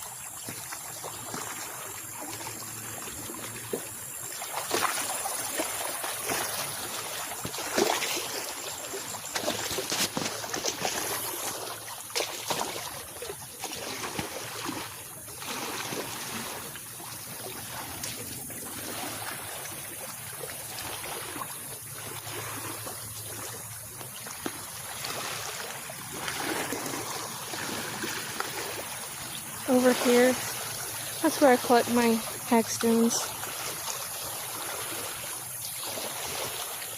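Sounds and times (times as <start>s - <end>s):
small waves lapping on shore: 0.0s - 36.9s.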